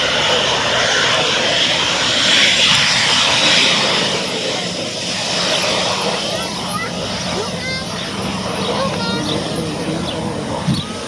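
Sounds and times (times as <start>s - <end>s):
jet engines at taxi power: 0.0s - 11.0s.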